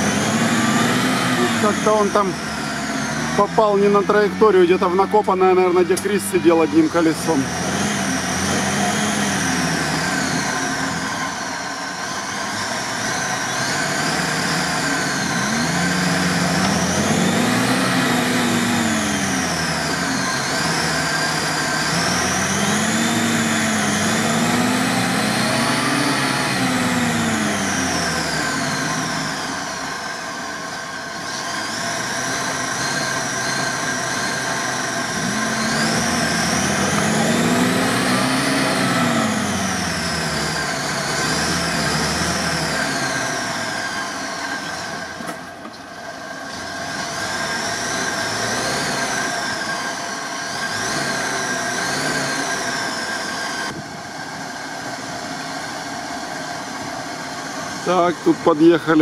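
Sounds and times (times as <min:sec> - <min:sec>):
off-road engine revving: 0:00.0 - 0:59.0.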